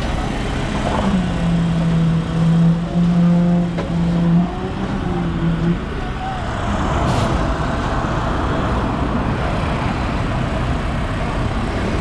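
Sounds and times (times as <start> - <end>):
road traffic: 0.0 - 12.0
truck engine running: 0.0 - 12.0.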